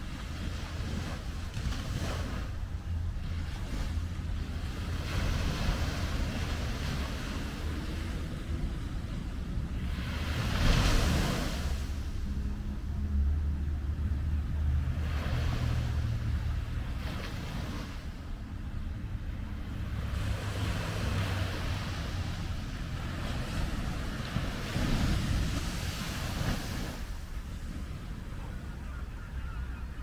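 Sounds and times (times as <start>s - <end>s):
small waves breaking on beach: 0.0s - 12.8s, 13.7s - 30.0s
steady low rumble: 0.0s - 28.9s.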